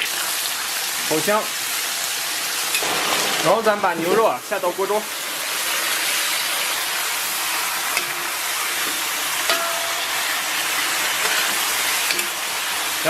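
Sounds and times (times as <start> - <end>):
meat sizzling in hot oil: 0.0 - 13.0.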